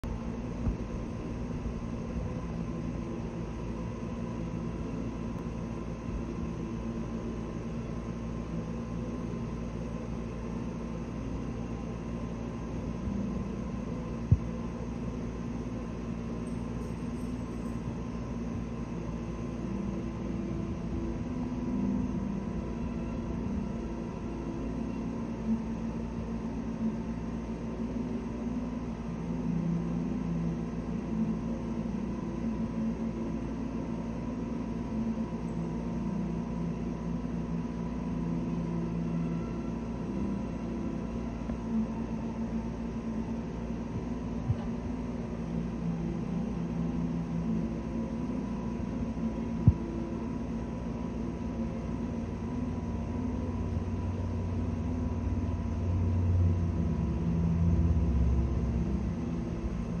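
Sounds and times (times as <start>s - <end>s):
low background hum and rumble: 0.0s - 60.0s.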